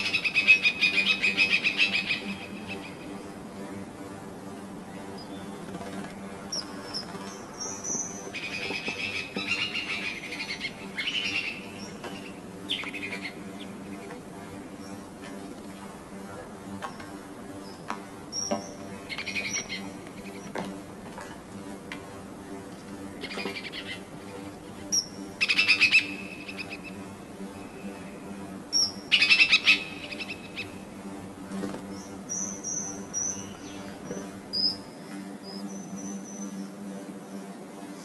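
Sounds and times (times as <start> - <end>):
birds chirping: 0.0 - 21.8, 22.4 - 38.0.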